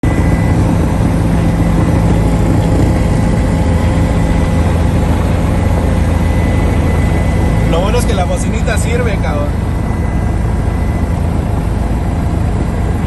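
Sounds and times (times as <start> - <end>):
helicopter engine drone: 0.0 - 13.0.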